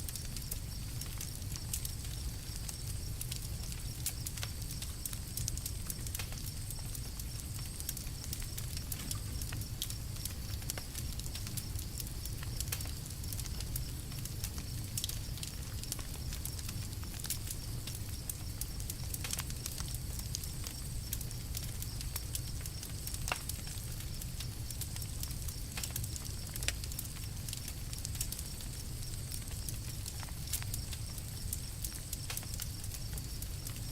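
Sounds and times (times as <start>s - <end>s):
campfire crackling: 0.0s - 33.9s.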